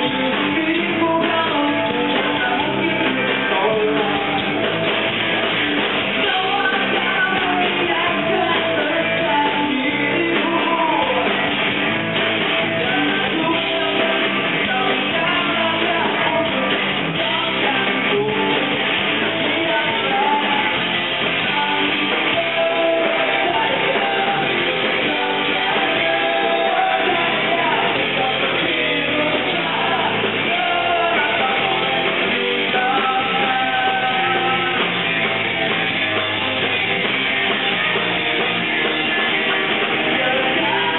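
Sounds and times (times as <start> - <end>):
person singing: 0.0 - 4.7, 6.1 - 11.6, 12.8 - 35.2, 39.7 - 40.9
drums: 0.0 - 40.9
strummed guitars: 0.0 - 40.9.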